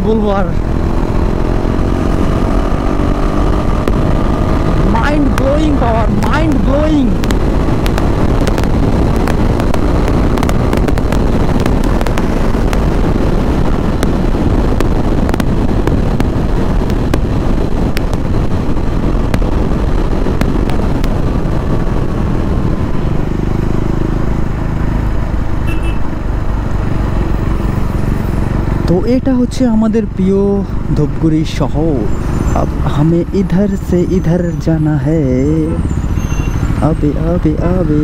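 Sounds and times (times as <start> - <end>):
motorcycle engine at speed: 0.0 - 38.0
wind noise: 0.0 - 38.0.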